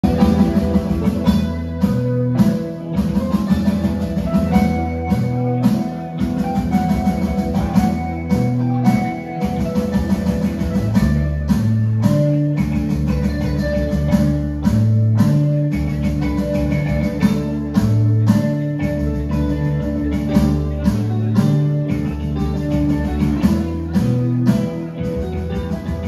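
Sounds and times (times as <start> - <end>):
bass guitar: 0.0 - 26.0
drum kit with cymbal hits: 0.0 - 26.0
electric guitars: 0.0 - 26.0.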